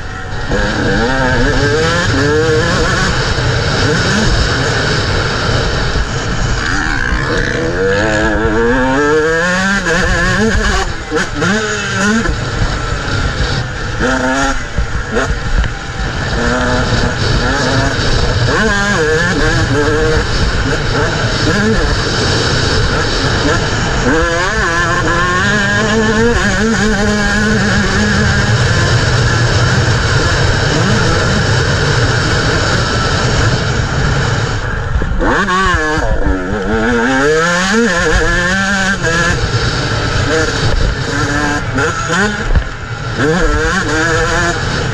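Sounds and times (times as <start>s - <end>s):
motorcycle engine revving: 0.0s - 44.9s
wind and track noise rumble: 0.0s - 44.9s.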